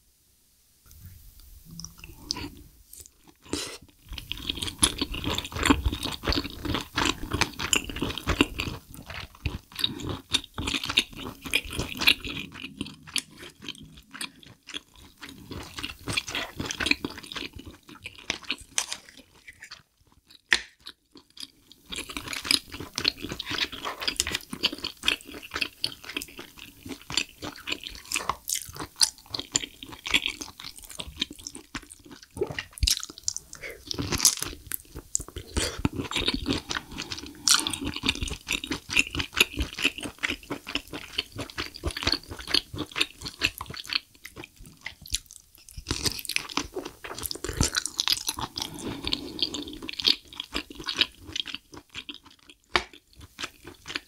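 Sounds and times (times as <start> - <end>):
close-miked wet chewing: 1.8 - 54.0.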